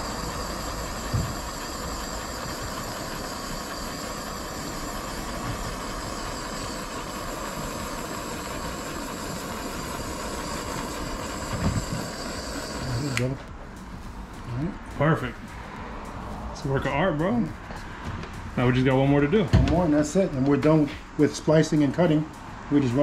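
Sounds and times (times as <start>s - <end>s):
torch flame hissing: 0.0s - 23.0s.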